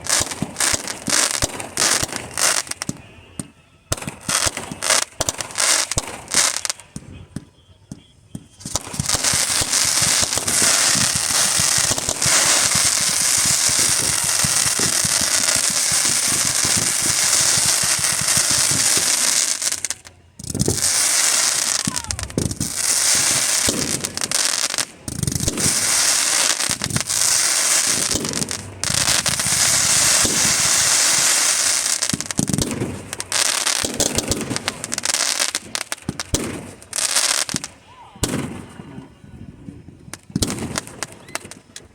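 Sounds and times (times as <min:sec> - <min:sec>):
deep firework bangs: 0:00.0 - 0:39.0, 0:39.7 - 0:41.6
fireworks crackling and popping: 0:00.0 - 0:41.9.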